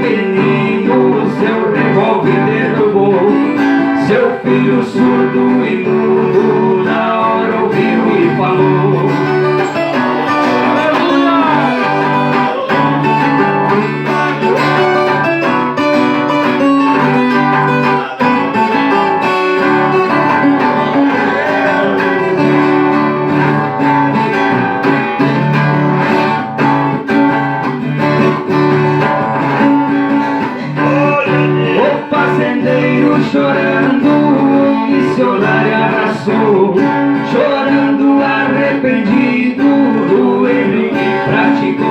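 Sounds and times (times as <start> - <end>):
plucked acoustic guitars playing: 0.0 - 41.9.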